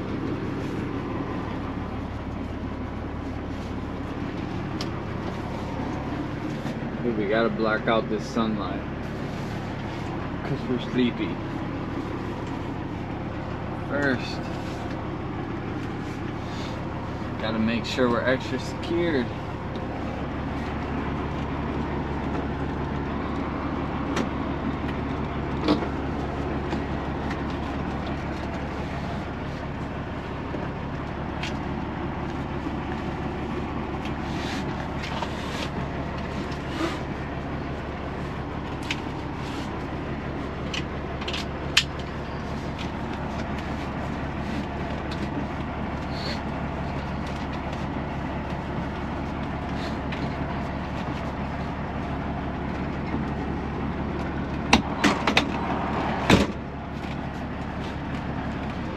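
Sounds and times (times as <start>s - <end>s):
diesel truck engine idling: 0.0s - 58.9s.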